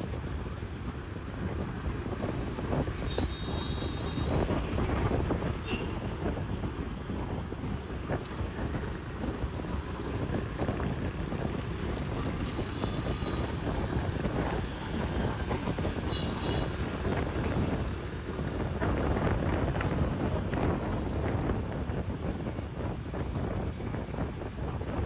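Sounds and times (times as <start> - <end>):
street traffic noise: 0.0 - 25.0
wind on the microphone: 0.0 - 25.0.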